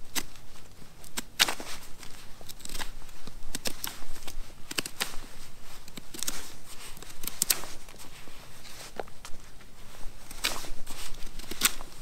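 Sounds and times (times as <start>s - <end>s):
knife carving wood: 0.0s - 8.0s, 10.2s - 12.0s.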